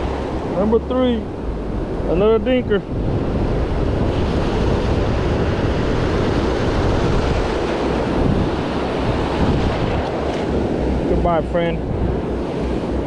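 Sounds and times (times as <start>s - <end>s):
ocean surf on beach: 0.0s - 13.0s
wind on microphone: 0.0s - 13.0s.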